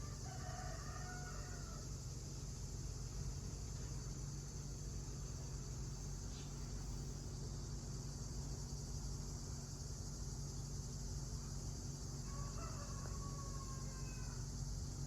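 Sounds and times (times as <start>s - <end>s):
crickets chirring: 0.0s - 15.0s
steady low hum: 0.0s - 15.0s.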